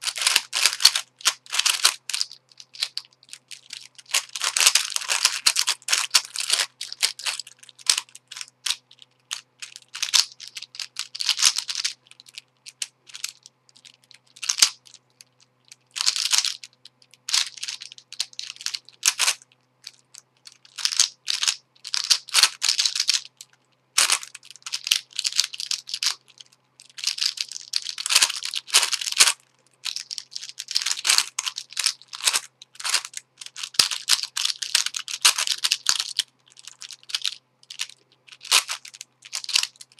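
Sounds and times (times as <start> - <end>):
puzzle cube plastic clicking: 0.0 - 39.9.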